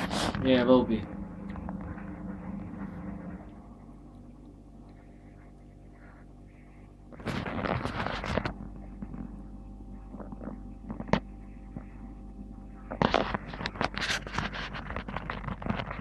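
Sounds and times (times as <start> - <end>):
washing machine hum: 0.0 - 16.0.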